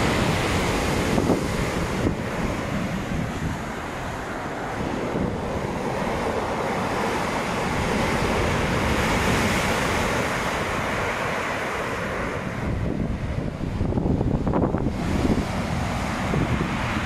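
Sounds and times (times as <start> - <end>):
surf breaking against seawall: 0.0 - 17.0
wind buffeting microphone: 0.0 - 17.0.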